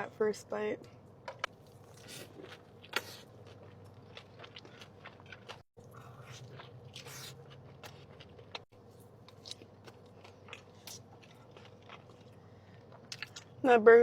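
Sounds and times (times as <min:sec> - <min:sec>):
person chewing a burger: 0:01.4 - 0:13.6.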